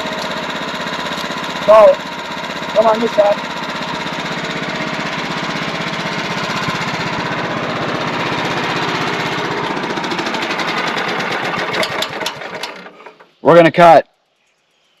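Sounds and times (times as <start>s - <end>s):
sawmill engine pulsing: 0.0s - 13.4s.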